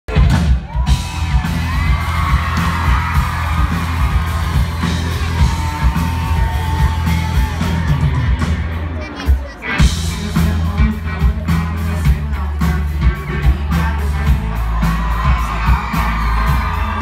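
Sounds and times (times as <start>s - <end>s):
fans yelling and whooping: 0.1s - 9.9s, 13.0s - 17.0s
heavy bass: 0.1s - 17.0s
live rock band playing: 0.1s - 17.0s.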